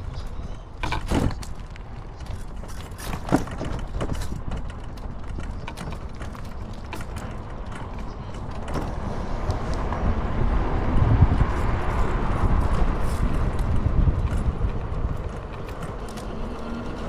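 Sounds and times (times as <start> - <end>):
mechanical clicking and rattling: 0.0 - 17.0
small vehicle rumbling: 0.0 - 17.0.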